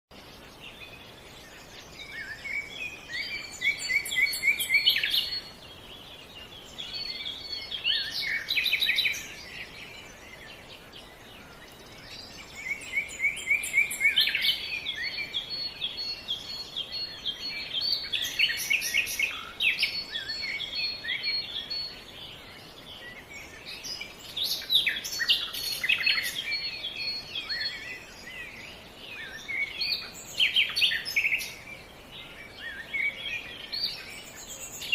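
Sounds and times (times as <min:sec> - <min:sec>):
faint steady hiss: 0:00.1 - 0:34.9
songbirds chirping and trilling: 0:00.1 - 0:34.9.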